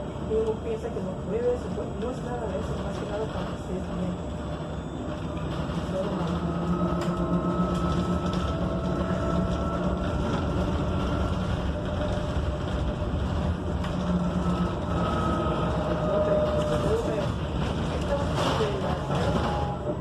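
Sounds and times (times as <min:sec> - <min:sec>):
bus cabin noise: 0:00.0 - 0:20.0
road rumble: 0:00.0 - 0:20.0.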